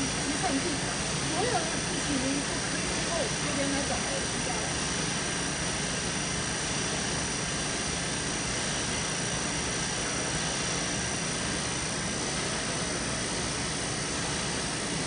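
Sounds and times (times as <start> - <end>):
machinery hum and rush: 0.0 - 15.0.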